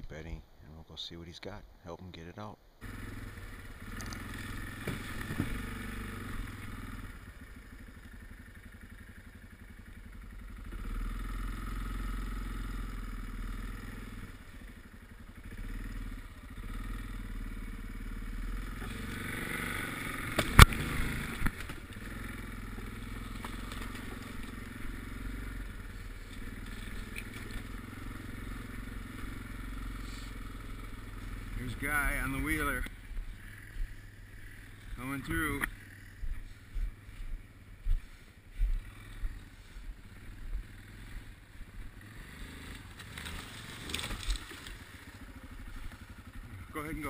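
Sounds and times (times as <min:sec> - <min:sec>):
atv engine running: 0:02.8 - 0:47.0.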